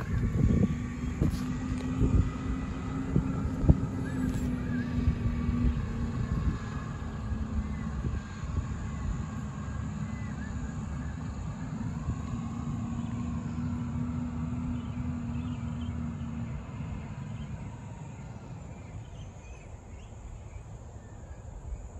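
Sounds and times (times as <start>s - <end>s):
garbage truck engine rumble: 0.0s - 18.8s.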